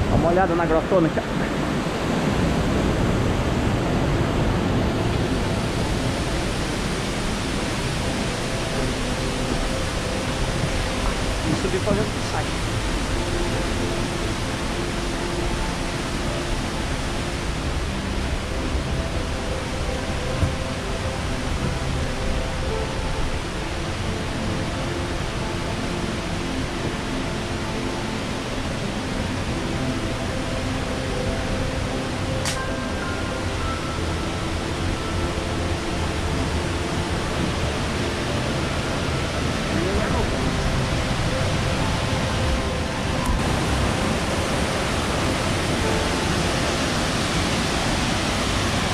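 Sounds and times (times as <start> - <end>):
waterfall roaring: 0.0 - 48.9.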